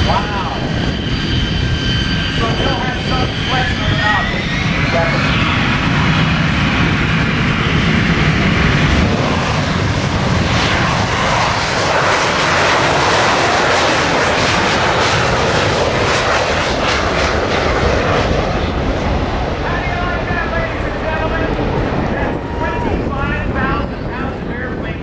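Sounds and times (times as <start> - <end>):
loud jet engine noise: 0.0 - 25.0.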